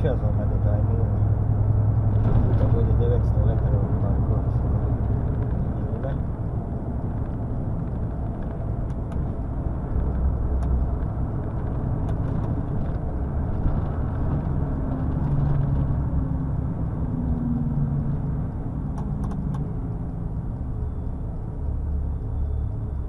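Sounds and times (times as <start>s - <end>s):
faint engine hum: 0.0s - 23.0s
lorry engine and road rumble: 0.0s - 23.0s.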